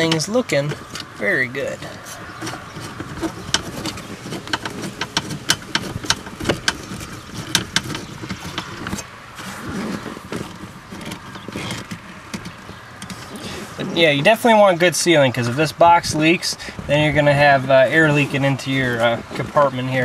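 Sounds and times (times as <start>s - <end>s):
plastic rubbing: 0.0s - 20.0s.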